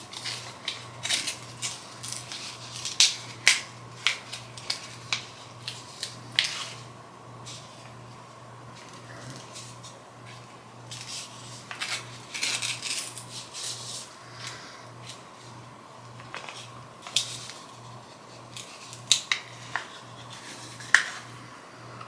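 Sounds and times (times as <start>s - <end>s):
packaging rustling and scraping: 0.0s - 21.5s.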